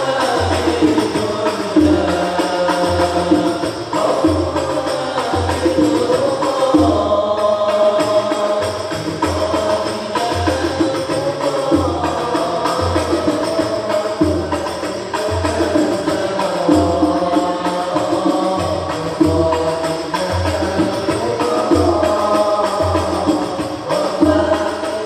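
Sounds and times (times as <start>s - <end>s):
frame drums beating: 0.0s - 25.0s
male voices singing together: 0.0s - 25.0s.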